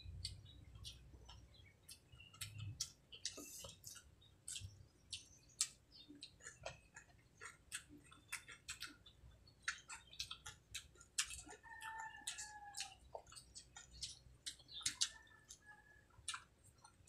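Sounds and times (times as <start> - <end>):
chewing with mouth smacks: 0.1 - 17.0.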